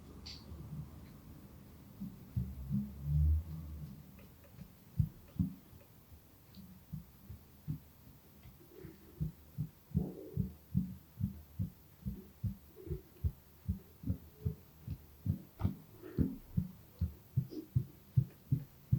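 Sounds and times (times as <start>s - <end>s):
soft thumps of massage strokes: 2.0s - 18.9s.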